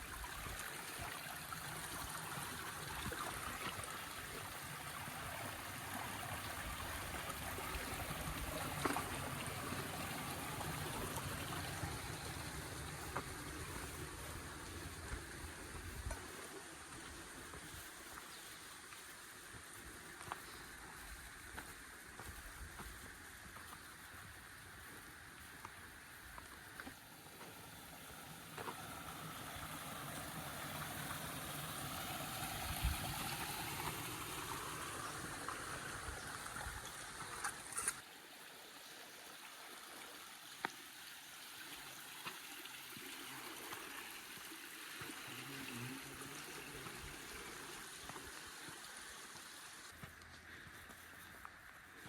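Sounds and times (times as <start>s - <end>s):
water trickling and gurgling: 0.0s - 52.0s.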